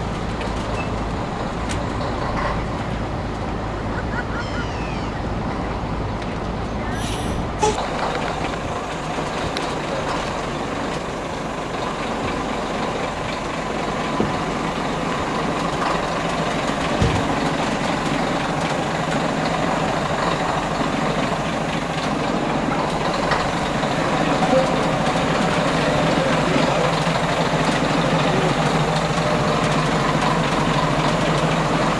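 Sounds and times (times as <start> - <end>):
diesel truck engine idling: 0.0 - 31.9.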